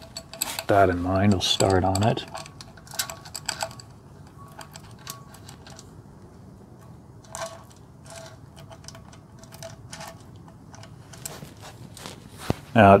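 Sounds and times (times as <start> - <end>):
metal chain clinking and rattling: 0.0 - 6.0, 6.8 - 12.1.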